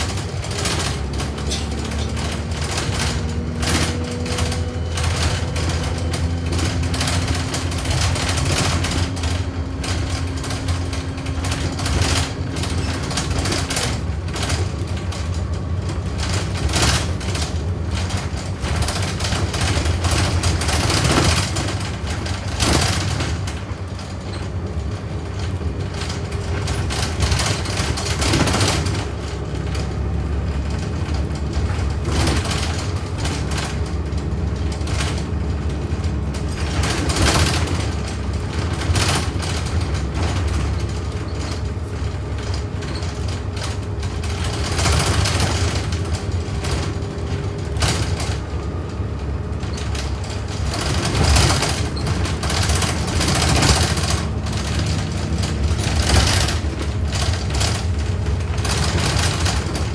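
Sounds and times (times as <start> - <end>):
bus engine and road drone: 0.0 - 59.9
bus knocks and rattles: 0.0 - 59.9.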